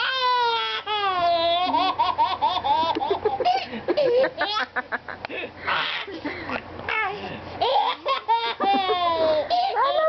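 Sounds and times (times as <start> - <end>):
baby laughing: 0.2 - 4.8, 5.7 - 10.0.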